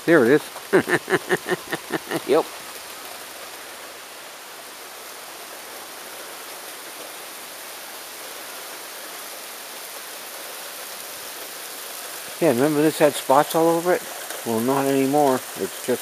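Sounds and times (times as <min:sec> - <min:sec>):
rain on asphalt and lawn: 0:00.0 - 0:16.0.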